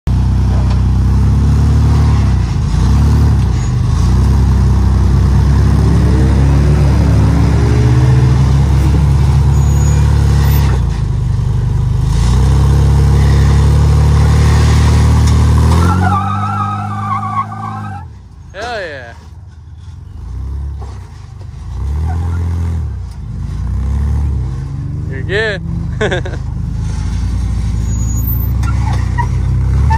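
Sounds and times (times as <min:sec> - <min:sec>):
engine working under load: 0:00.1 - 0:29.9.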